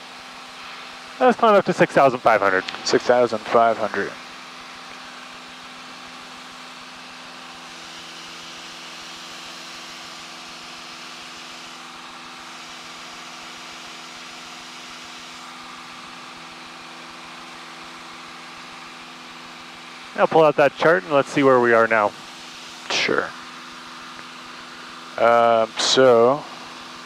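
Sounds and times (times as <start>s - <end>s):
airplane engine and propeller droning: 0.0s - 27.0s.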